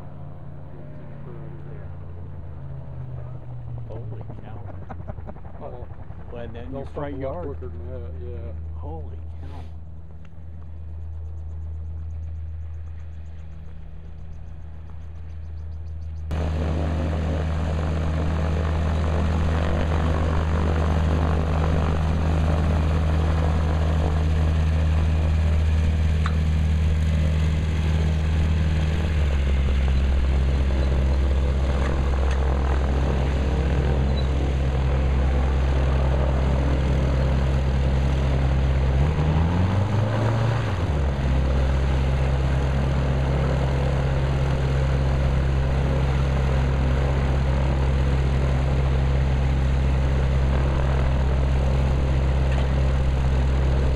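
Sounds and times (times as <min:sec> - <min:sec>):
gyrocopter engine and propeller: 0:00.0 - 0:53.9.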